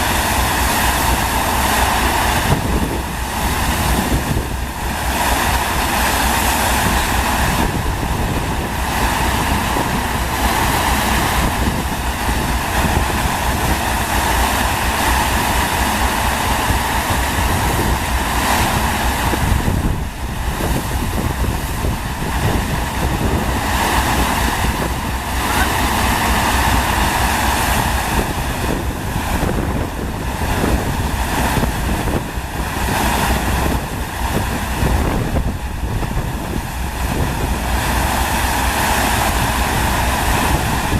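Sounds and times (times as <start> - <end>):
rushing water pouring: 0.0 - 40.9
wind buffeting microphone: 0.0 - 40.9.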